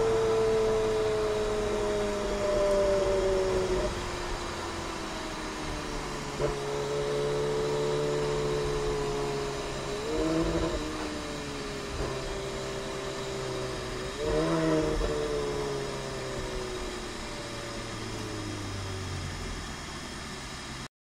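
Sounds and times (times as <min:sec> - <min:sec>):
car engine running at low revs: 0:00.0 - 0:20.9.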